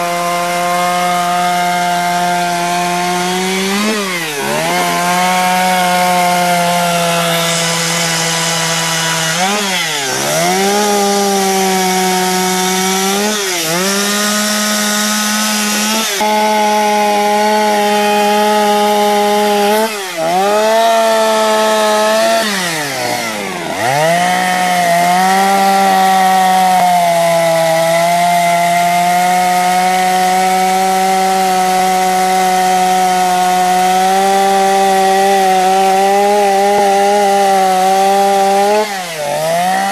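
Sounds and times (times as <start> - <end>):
chainsaw carving wood: 0.0 - 39.9.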